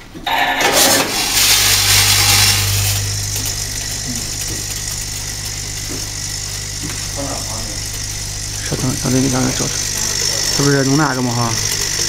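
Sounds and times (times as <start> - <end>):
steady electric hum: 0.0 - 12.0.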